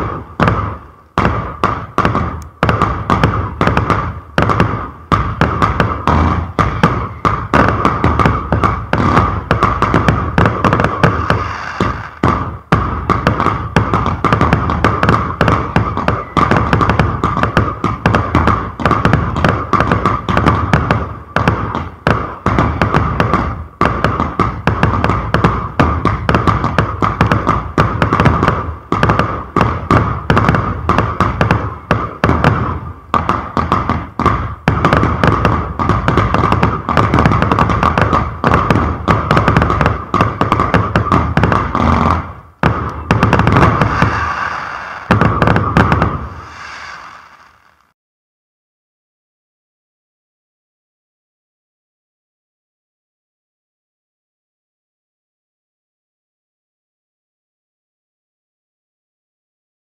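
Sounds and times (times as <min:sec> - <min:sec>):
fireworks thumps and bangs: 0:00.0 - 0:48.0.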